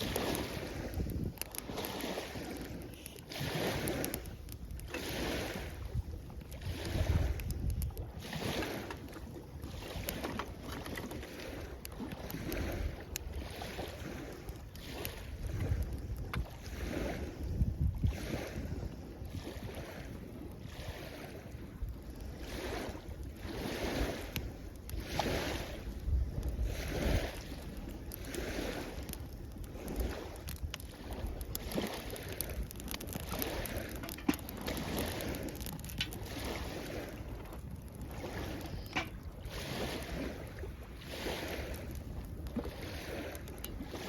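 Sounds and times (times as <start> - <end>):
small waves washing ashore: 0.0 - 44.0
wind rumble on microphone: 0.0 - 44.0.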